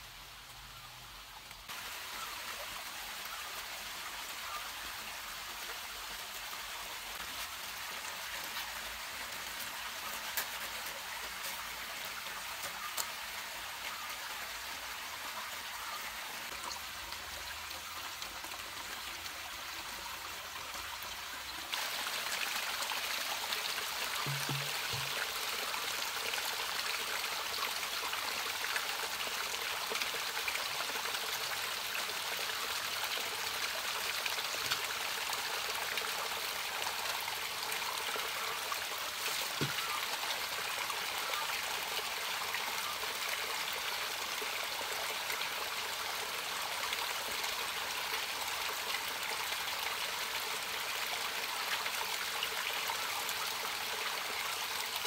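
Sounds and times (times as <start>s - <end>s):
water trickling over rock: 5.4s - 55.0s.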